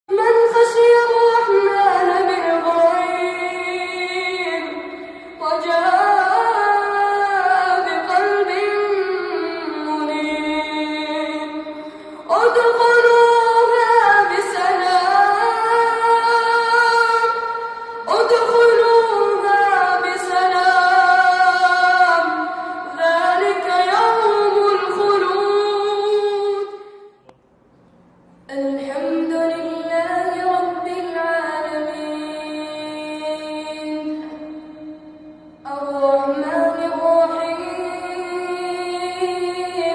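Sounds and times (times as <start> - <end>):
boy reciting melodically: 0.1 - 27.0, 28.5 - 39.9.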